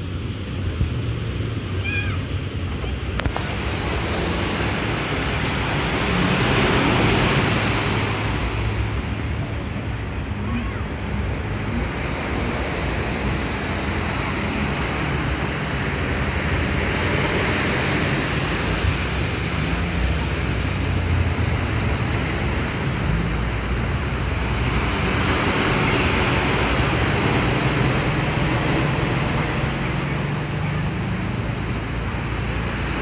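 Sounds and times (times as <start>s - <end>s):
distant surf: 0.0s - 33.0s
wind rushing: 3.1s - 30.3s.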